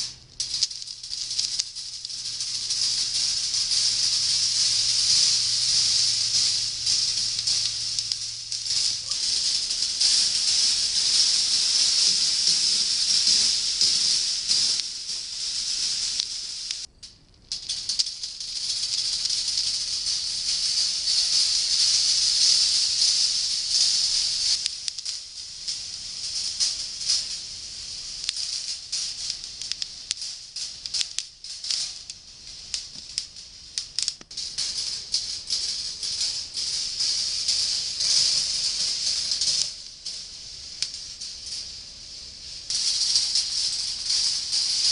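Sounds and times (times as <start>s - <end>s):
balls rolling on steel rails: 0.0s - 44.9s.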